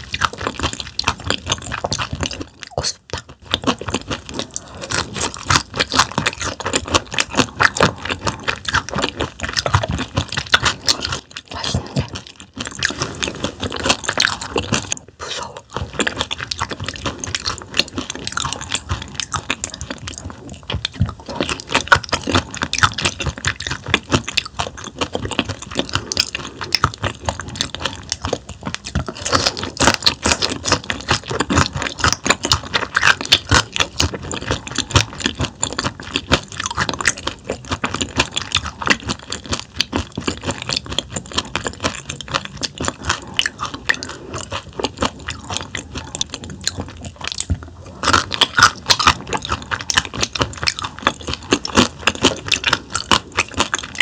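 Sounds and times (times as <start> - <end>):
chewing with wet crunches: 0.0 - 54.0.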